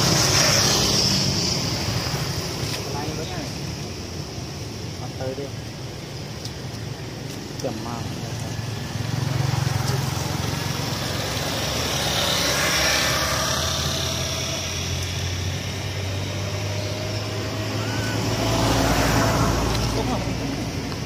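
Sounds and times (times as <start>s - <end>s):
motor vehicle engine hum: 0.0s - 21.0s.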